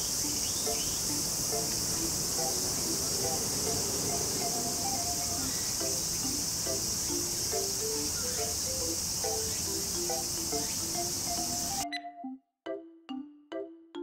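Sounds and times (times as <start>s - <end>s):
crickets chirring: 0.0s - 11.8s
soft melody: 0.0s - 14.0s.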